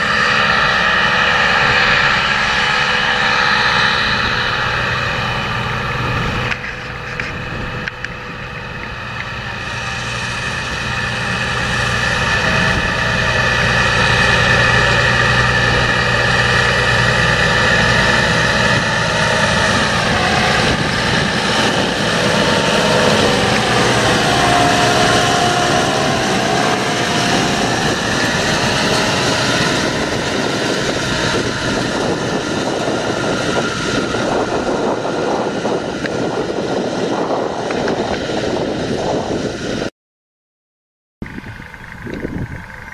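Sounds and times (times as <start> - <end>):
tractor diesel engine running: 0.0 - 39.9, 41.2 - 42.9.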